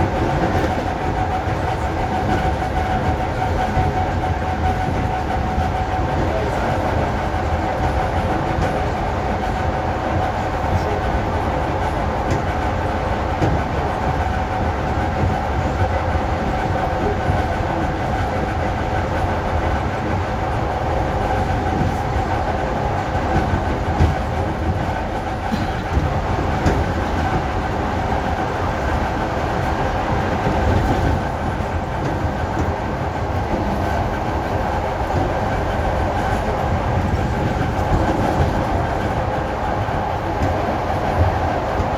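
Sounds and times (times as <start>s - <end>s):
wheels rumbling on track: 0.0s - 41.9s.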